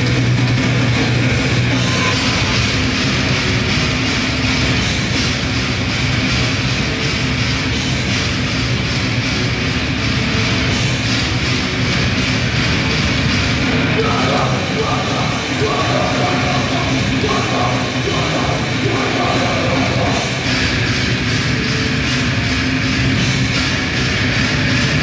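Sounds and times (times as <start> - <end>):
grindcore band playing: 0.0 - 25.0.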